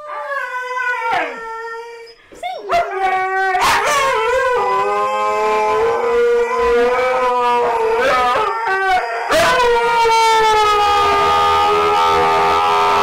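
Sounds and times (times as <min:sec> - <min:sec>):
dogs howling together: 0:00.0 - 0:13.0.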